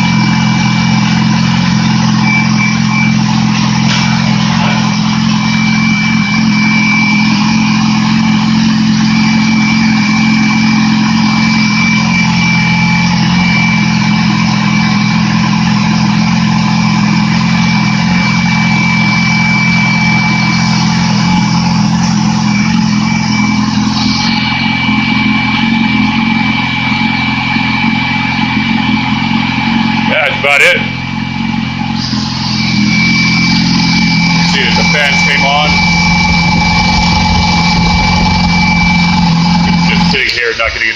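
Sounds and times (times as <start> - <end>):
motorcycle engine idling: 0.0 - 40.9
thin high whine: 0.0 - 40.9.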